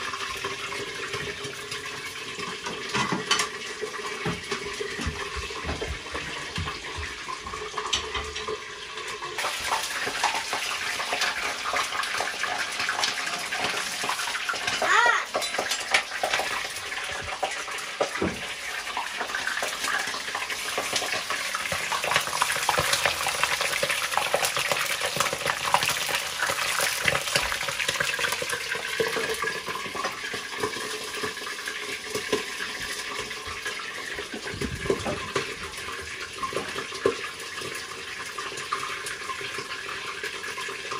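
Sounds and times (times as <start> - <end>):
meat frying in hot oil: 0.0 - 40.9.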